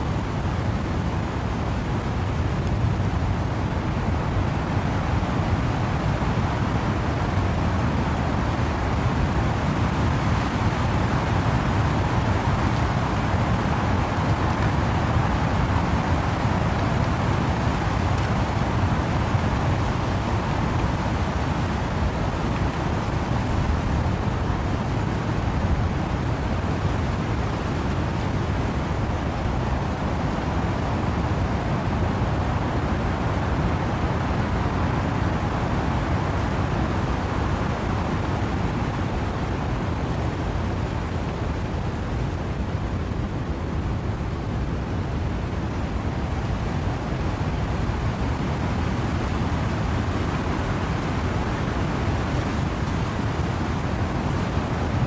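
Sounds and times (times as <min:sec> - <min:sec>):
wind and rain in trees: 0:00.0 - 0:55.0.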